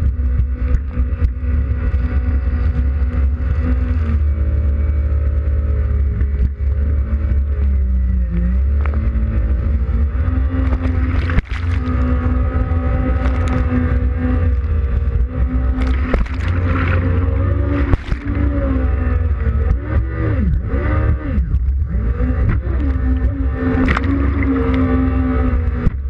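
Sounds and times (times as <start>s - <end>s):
jet ski engine running: 0.0s - 26.0s
wind and water rumble: 0.0s - 26.0s.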